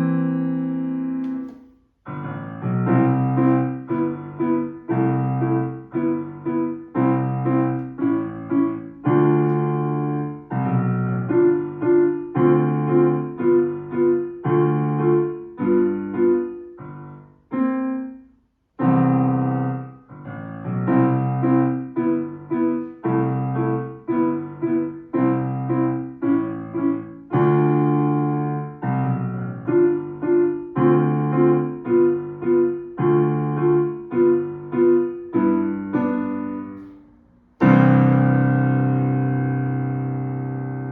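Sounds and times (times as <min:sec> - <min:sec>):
piano playing detached chords: 0:00.0 - 0:18.2, 0:18.8 - 0:40.9.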